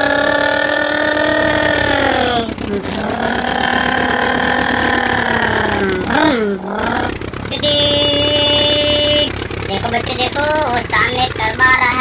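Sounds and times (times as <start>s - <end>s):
engine-like pitched drone: 0.0s - 12.0s.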